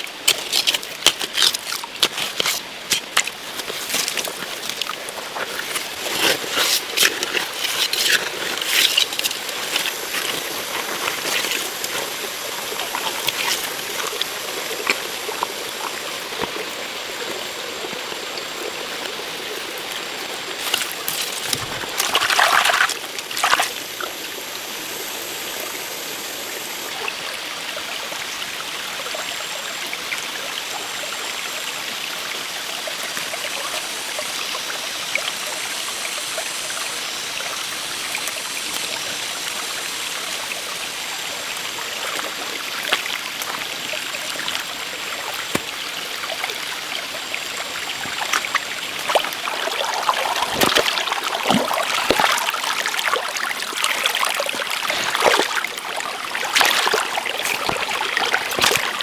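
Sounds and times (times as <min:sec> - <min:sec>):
trickling running water: 0:00.0 - 0:59.0.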